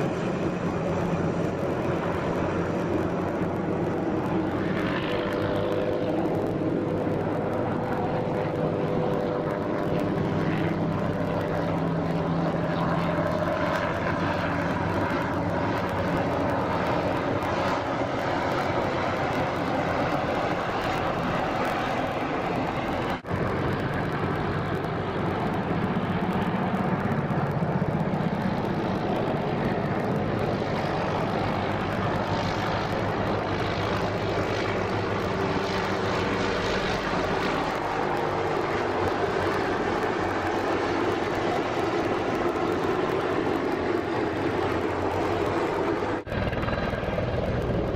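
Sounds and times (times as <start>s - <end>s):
helicopter rotor and engine drone: 0.0s - 47.9s.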